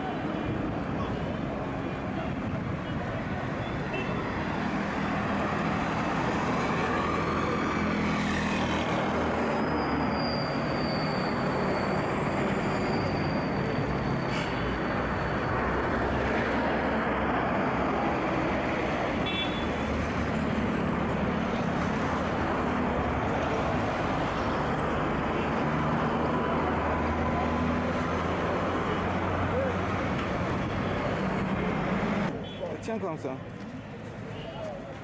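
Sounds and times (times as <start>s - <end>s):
street traffic hum: 0.0s - 35.0s.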